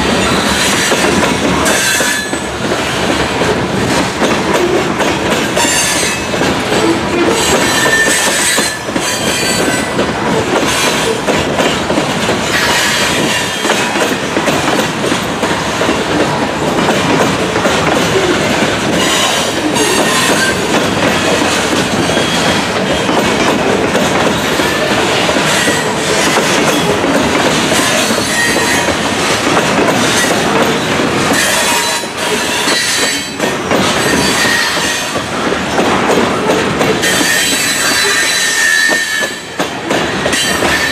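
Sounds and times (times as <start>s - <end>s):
train wheels clattering over rail joints: 0.0s - 40.9s.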